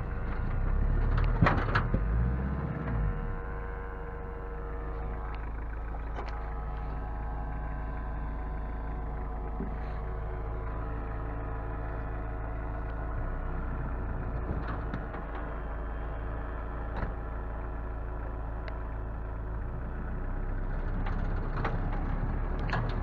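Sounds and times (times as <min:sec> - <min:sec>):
vehicle engine running steadily: 0:00.0 - 0:23.0.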